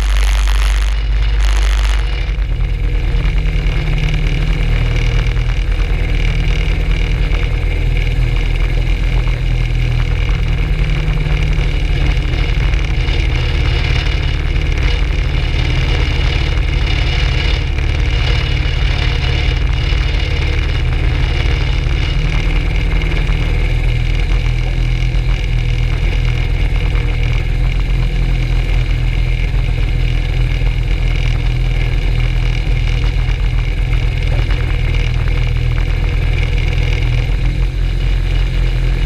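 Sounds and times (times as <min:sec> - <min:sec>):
ultralight engine running: 0:00.0 - 0:39.0.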